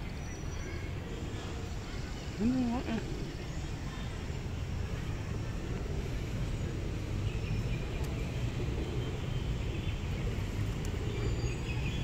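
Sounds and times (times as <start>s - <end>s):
faint voices: 0.0s - 11.2s
city traffic rumble: 0.0s - 12.0s.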